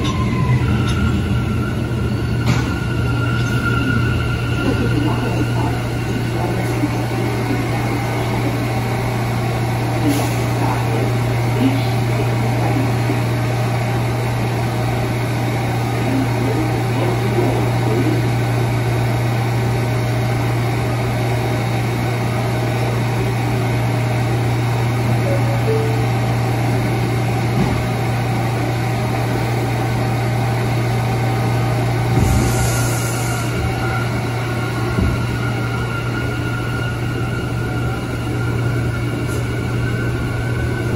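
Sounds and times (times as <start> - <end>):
subway car humming: 0.0 - 40.9.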